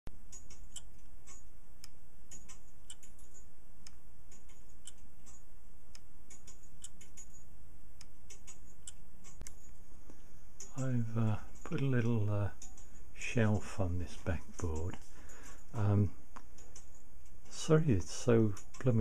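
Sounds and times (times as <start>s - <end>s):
clock ticking: 0.1s - 7.4s, 10.6s - 19.0s.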